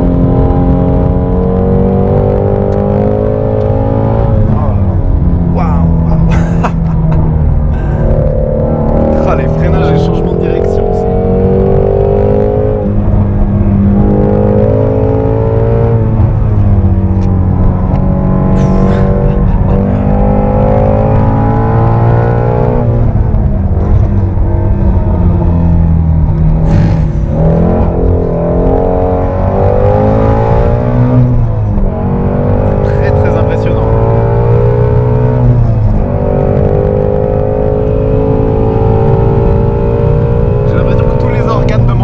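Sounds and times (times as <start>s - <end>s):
car engine revving through gears: 0.0s - 42.0s.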